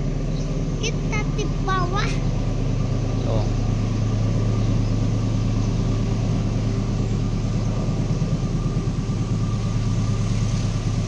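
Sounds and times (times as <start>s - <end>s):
locomotive engine droning: 0.0s - 11.0s.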